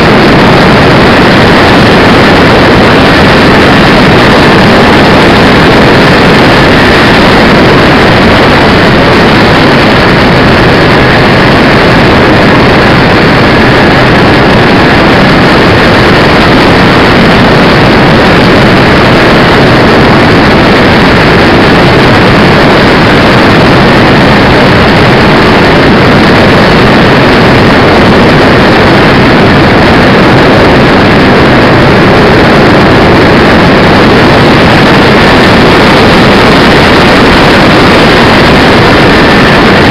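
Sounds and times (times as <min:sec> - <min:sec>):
faint steady whine: 0:00.0 - 0:39.9
model aircraft engines droning: 0:00.0 - 0:39.9
wind rush: 0:00.0 - 0:39.9.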